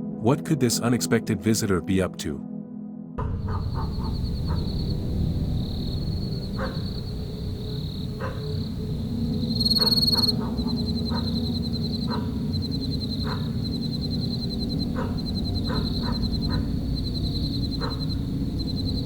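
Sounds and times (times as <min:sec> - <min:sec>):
frog calls: 0:03.3 - 0:19.0
insects high pulsing trill: 0:03.3 - 0:19.0.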